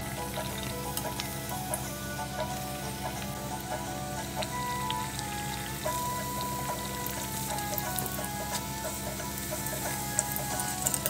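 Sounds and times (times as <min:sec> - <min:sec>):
background music: 0:00.0 - 0:11.0
dough sizzling in hot oil: 0:00.0 - 0:11.0.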